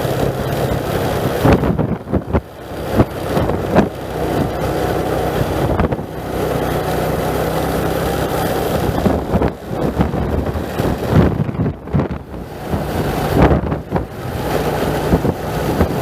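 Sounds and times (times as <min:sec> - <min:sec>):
vehicle engine running: 0:00.0 - 0:16.0
wind buffeting microphone: 0:00.0 - 0:16.0.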